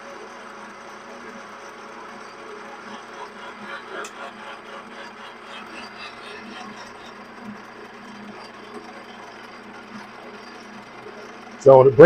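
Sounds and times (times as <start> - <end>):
metal lathe humming and whirring: 0.0 - 12.0.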